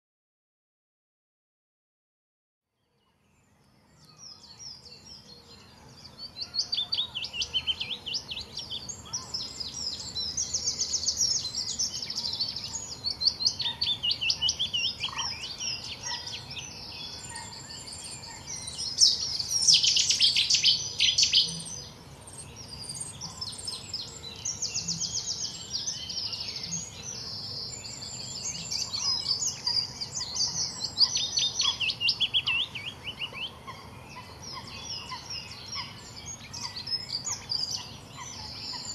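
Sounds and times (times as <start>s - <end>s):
songbirds singing: 2.7s - 38.9s.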